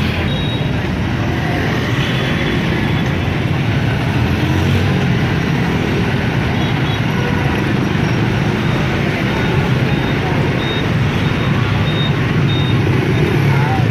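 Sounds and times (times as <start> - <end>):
motorbike engines in traffic: 0.0 - 13.9.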